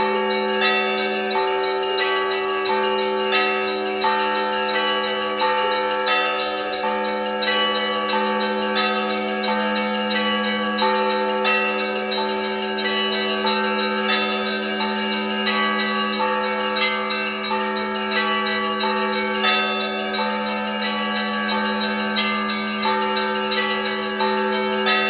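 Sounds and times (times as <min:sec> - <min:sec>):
church bells ringing: 0:00.0 - 0:25.0
hum of large bell: 0:00.0 - 0:25.0.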